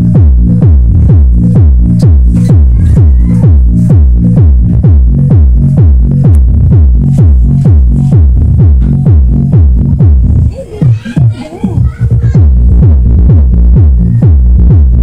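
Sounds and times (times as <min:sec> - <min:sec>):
kick drum booms: 0:00.0 - 0:11.3, 0:12.1 - 0:15.0
deep bass line: 0:00.0 - 0:15.0
loud electronic dance music: 0:00.0 - 0:15.0.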